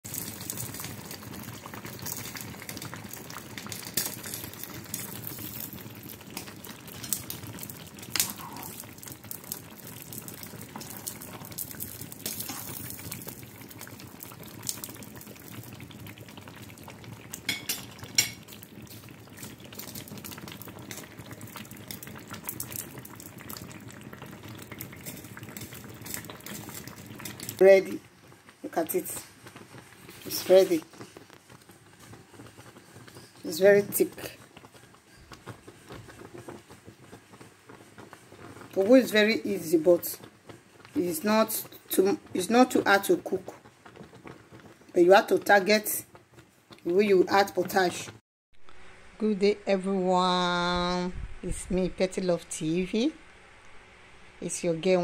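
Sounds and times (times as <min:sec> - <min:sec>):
thick soup bubbling in a pot: 0:00.0 - 0:49.0.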